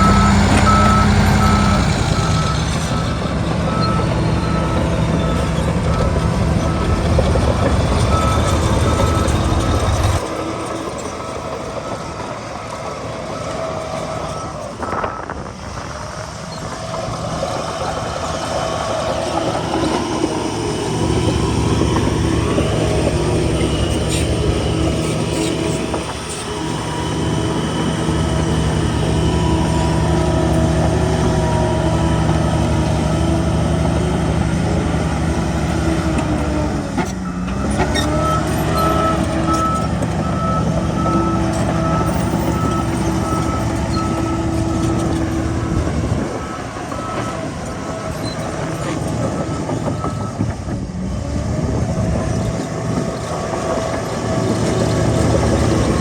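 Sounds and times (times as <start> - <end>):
reversing alarm beeping: 0.0 - 50.5
heavy diesel engine under load: 0.0 - 56.0.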